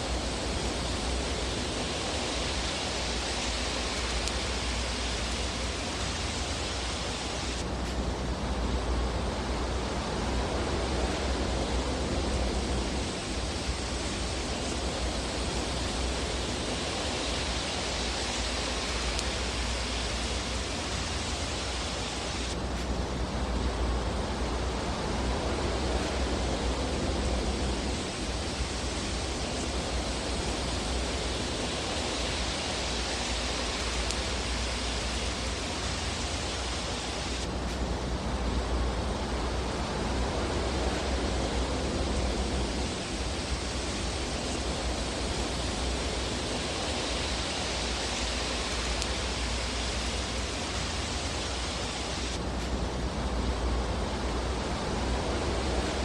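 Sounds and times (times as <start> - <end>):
fireplace fire rushing: 0.0 - 56.0.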